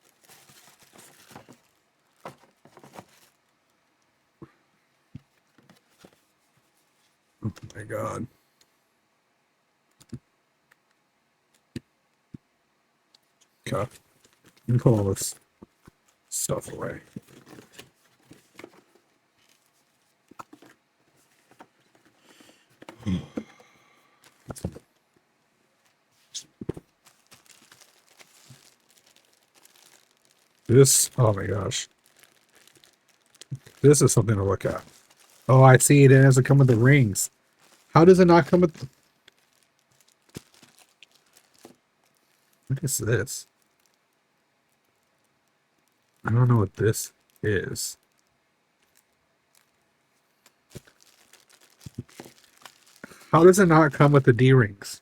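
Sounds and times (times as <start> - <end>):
soft packaging rustles: 0.0 - 4.1, 5.2 - 7.4, 14.2 - 42.7, 43.4 - 46.3, 47.1 - 54.4.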